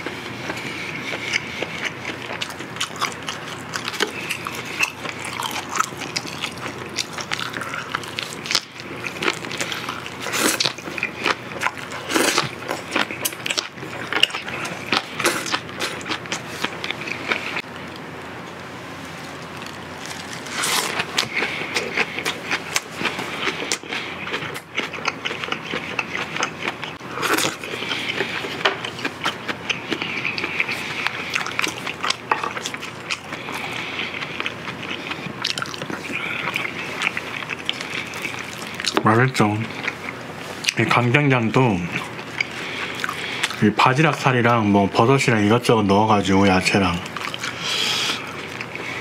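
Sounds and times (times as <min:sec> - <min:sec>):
man chewing and lip-smacking: 0:00.0 - 0:18.1, 0:19.4 - 0:40.8, 0:41.9 - 0:43.6, 0:47.0 - 0:49.0.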